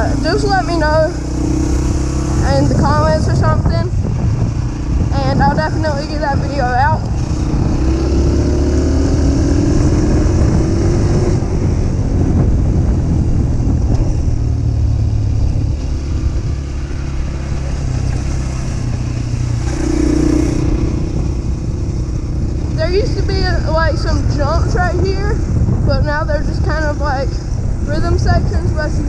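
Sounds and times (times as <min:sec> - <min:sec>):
dirt bike engine accelerating: 0:00.0 - 0:29.0.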